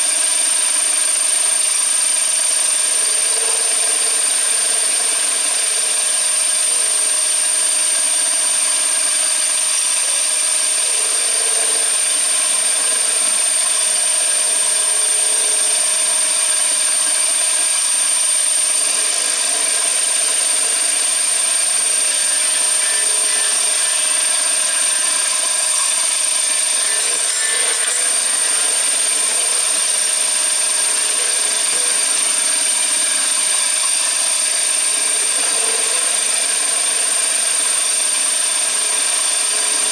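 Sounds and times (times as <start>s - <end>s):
spindle high-pitched whine: 0.0s - 39.9s.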